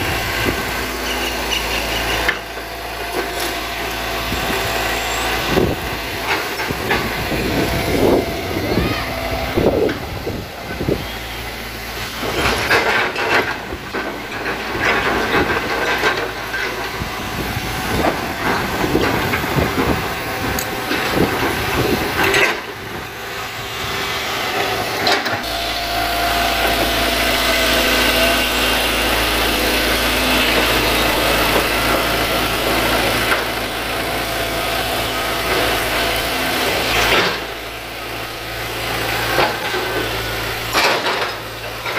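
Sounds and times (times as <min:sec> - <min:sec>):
excavator engine under load: 0:00.0 - 0:41.9.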